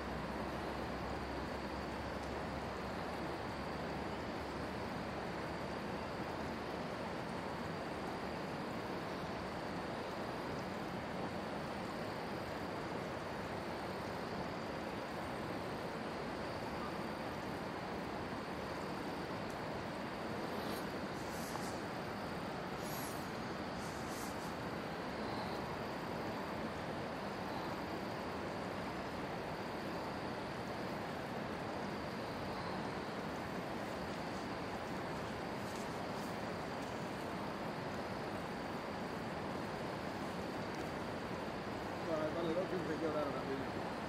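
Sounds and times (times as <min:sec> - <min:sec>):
faint high hum: 0:00.0 - 0:44.0
steady rushing background noise: 0:00.0 - 0:44.0.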